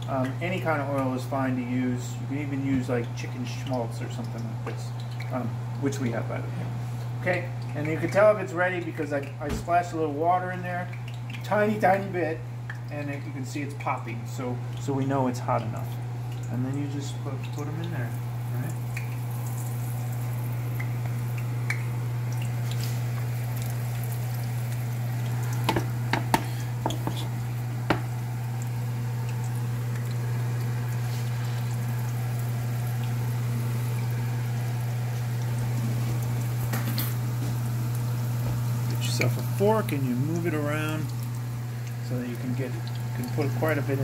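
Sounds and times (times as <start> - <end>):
chicken frying in oil: 0.0 - 44.0
steady low hum: 0.0 - 44.0.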